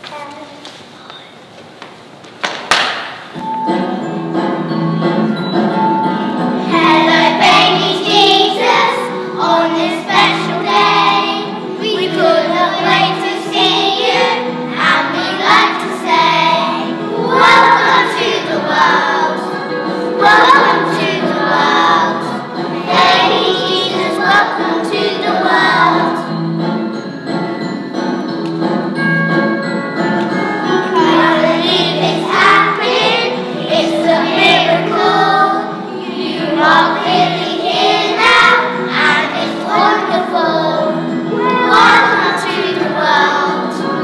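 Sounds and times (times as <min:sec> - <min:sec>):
musical accompaniment: 0:03.1 - 0:44.0
children's choir singing: 0:03.4 - 0:27.8, 0:30.2 - 0:44.0.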